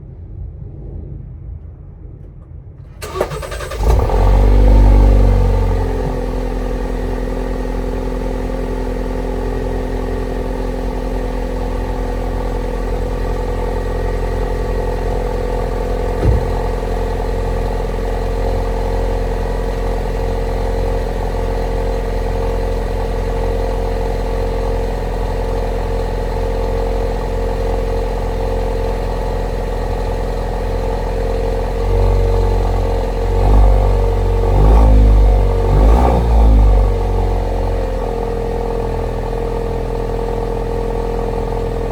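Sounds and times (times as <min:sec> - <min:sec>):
car engine starting and idling: 0:02.8 - 0:41.9.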